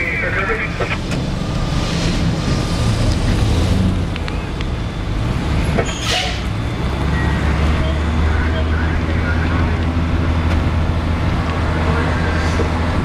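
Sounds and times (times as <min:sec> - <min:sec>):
diesel engines rumbling: 0:00.0 - 0:13.0.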